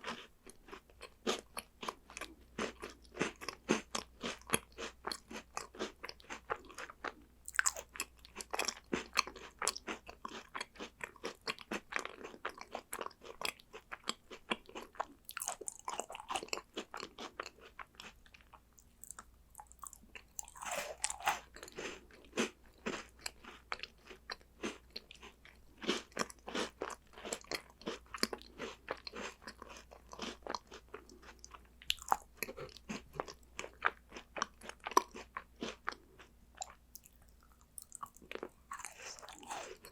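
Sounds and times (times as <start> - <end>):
crunching and chewing snacks: 0.0 - 39.9.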